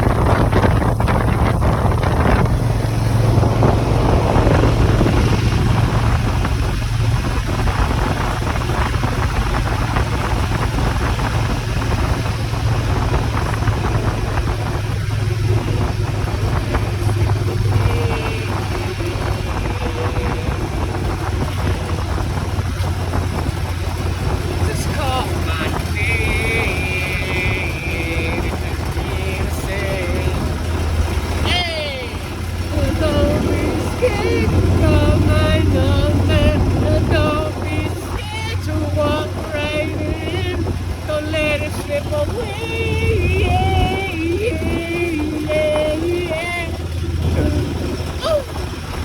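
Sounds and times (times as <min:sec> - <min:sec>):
motorcycle engine droning: 0:00.0 - 0:49.0
wind on microphone: 0:00.0 - 0:49.0.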